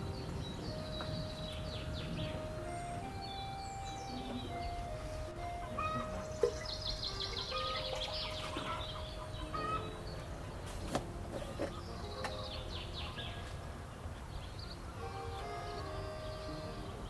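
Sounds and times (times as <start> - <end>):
small birds chirping: 0.0 - 17.0
soft background music: 0.0 - 17.0.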